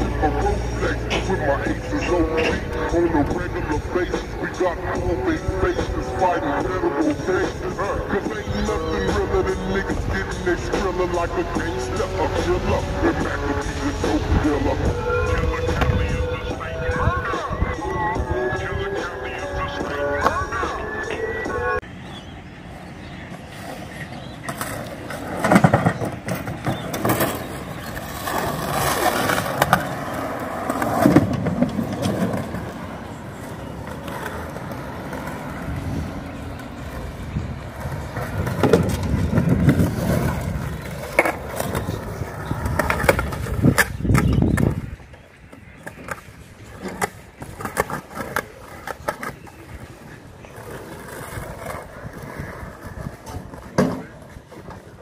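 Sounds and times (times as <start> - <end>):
skateboard clacking on ground: 0.0 - 21.8, 23.3 - 55.0
skateboard wheels rolling on concrete: 0.0 - 55.0.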